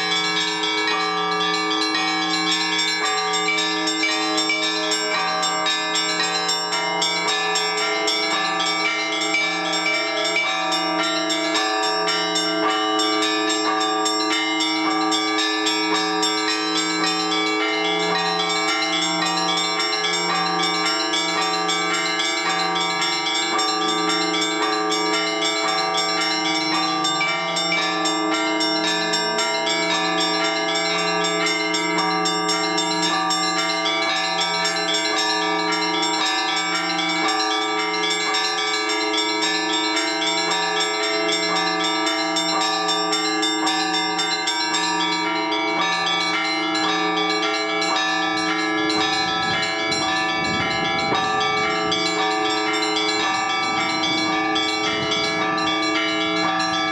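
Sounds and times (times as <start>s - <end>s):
large bells humming: 0.0s - 56.9s
small church bells pealing: 0.0s - 56.9s.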